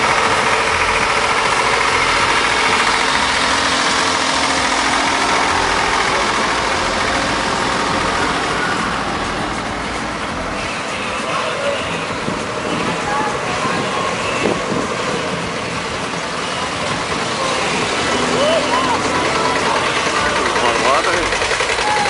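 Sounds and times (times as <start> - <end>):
tractor engine throbbing: 0.0 - 22.0.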